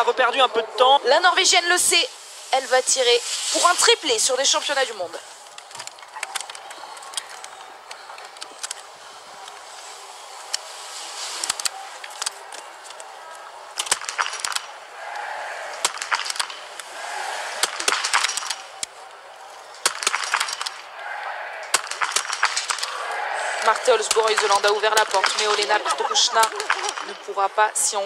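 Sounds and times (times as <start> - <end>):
crowd noise: 0.0 - 28.0.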